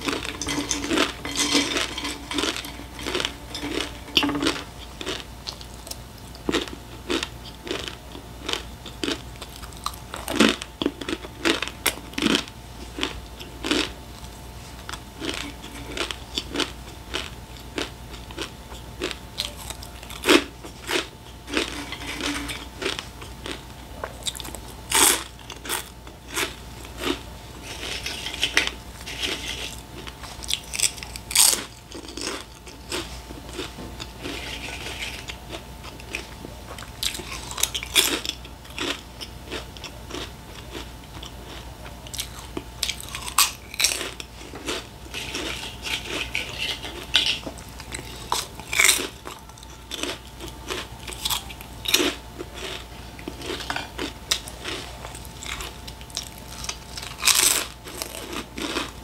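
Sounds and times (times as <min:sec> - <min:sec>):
person crunching crisp snacks: 0:00.0 - 0:59.0.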